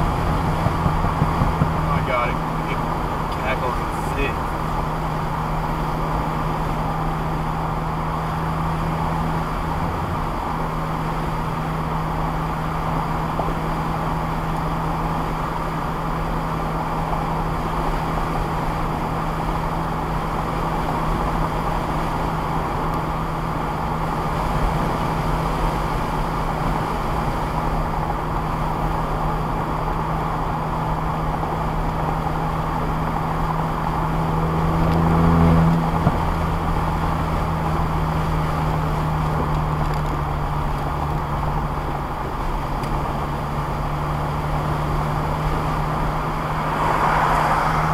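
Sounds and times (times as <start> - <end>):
car engine droning: 0.0 - 47.9
road noise: 0.0 - 47.9.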